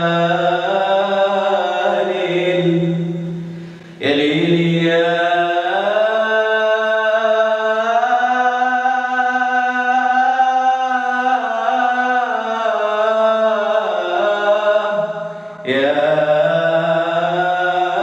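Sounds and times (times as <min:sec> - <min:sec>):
man singing long held note: 0:00.0 - 0:18.0.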